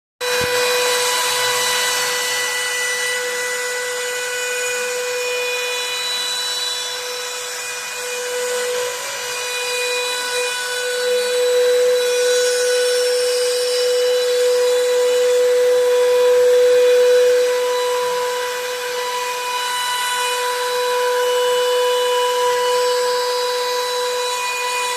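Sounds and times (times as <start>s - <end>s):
router spindle whining: 0.2s - 24.9s.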